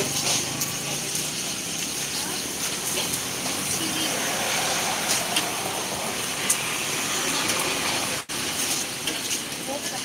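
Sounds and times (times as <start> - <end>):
food sizzling on hot counter: 0.0 - 10.0
market bustle: 0.0 - 10.0.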